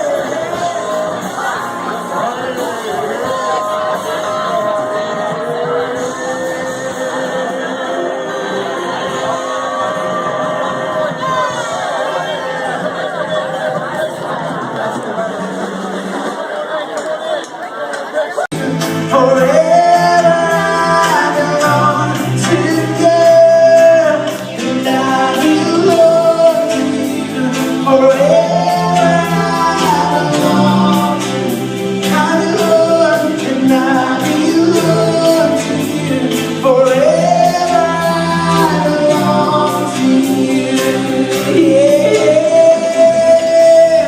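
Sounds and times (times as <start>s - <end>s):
band with steady beat: 0.0s - 44.0s
voices singing held notes: 0.0s - 44.0s.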